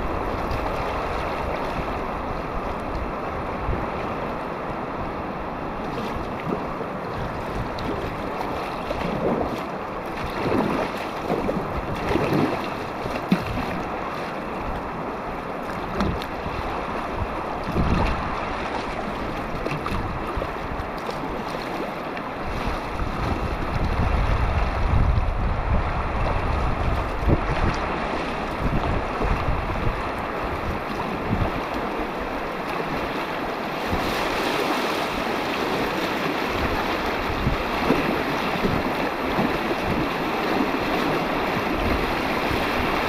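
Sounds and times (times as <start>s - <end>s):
wind buffeting microphone: 0.0s - 21.5s, 22.4s - 43.0s
river whitewater rushing: 0.0s - 43.0s
water splashes: 5.7s - 43.0s.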